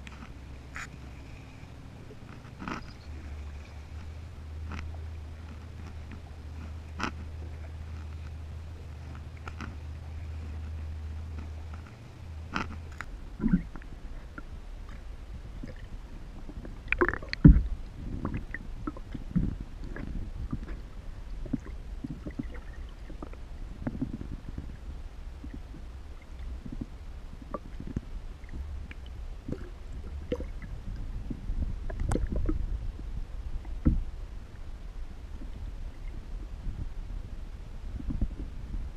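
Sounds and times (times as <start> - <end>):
low underwater rumble: 0.0 - 38.9.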